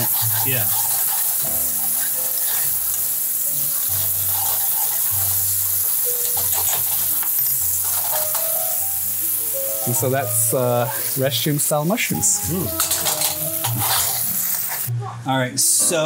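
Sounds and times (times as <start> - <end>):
mushrooms sizzling in skillet: 0.0 - 14.9
utensil stirring in pan: 0.0 - 14.9.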